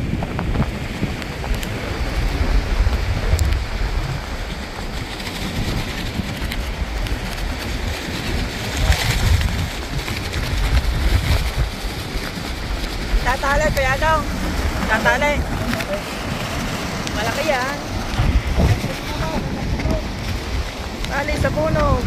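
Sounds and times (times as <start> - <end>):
surf hissing on beach: 0.0 - 22.0
wind buffeting microphone: 0.0 - 22.0.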